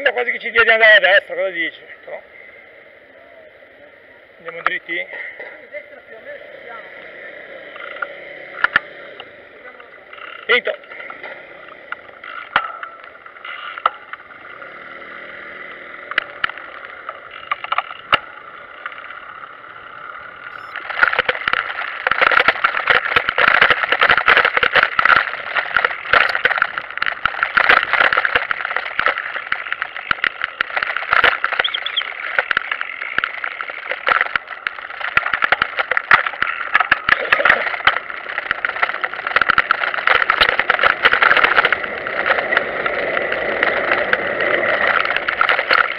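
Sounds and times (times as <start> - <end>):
wheels rattling over stone paving: 0.0 - 45.9.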